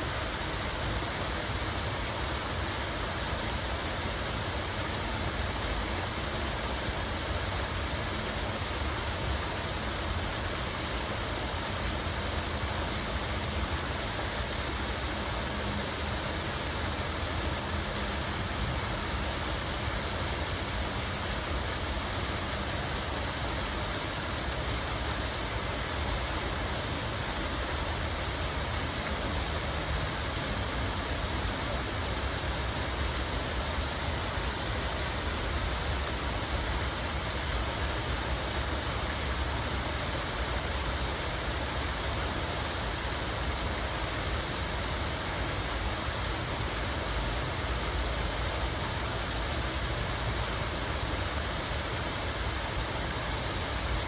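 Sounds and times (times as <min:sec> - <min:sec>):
water rushing and splashing: 0:00.0 - 0:54.0.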